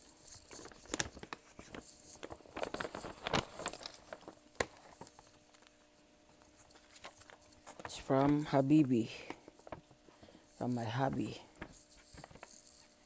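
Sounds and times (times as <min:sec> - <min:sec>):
paper bag rustling: 0:00.0 - 0:13.0.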